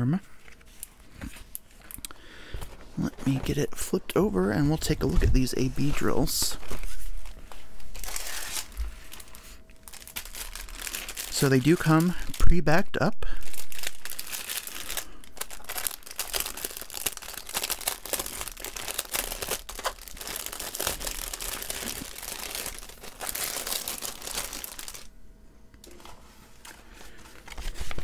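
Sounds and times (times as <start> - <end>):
plastic packaging crinkling: 3.0 - 12.6, 13.2 - 25.1, 25.9 - 28.0.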